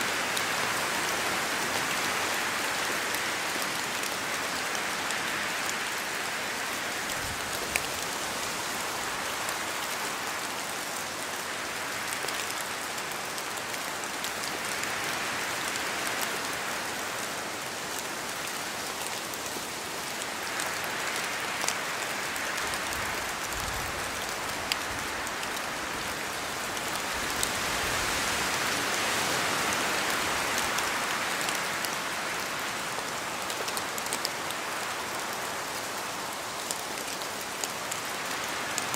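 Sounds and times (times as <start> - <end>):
rain falling in a forest: 0.0 - 38.9
wind gusting through trees: 0.0 - 38.9.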